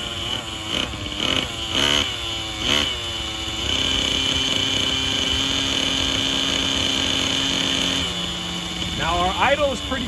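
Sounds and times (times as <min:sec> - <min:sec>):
model engine idling: 0:00.0 - 0:10.0.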